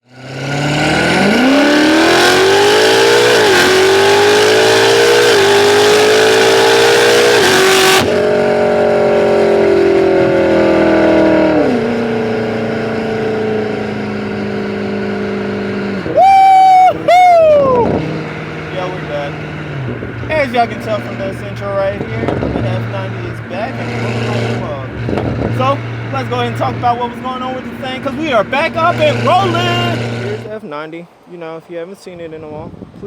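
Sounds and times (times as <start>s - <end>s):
car engine accelerating hard: 0.0s - 30.6s.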